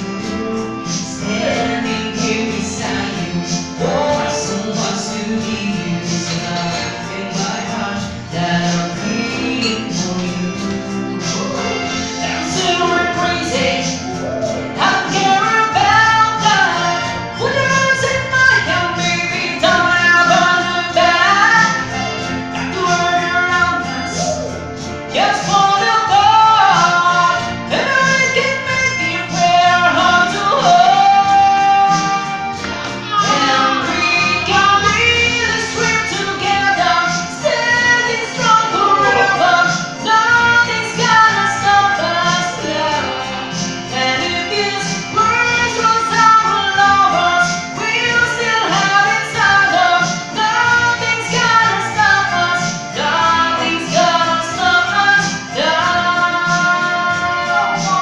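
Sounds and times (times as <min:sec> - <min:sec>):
backing music: 0:00.0 - 0:58.0
man singing into microphone: 0:00.0 - 0:58.0.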